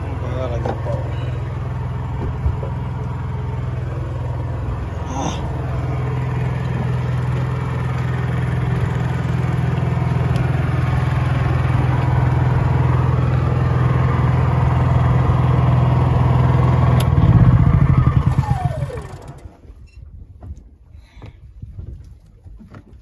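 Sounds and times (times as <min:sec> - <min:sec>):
generator running: 0:00.0 - 0:19.8
engine winding down with whine: 0:00.0 - 0:20.0.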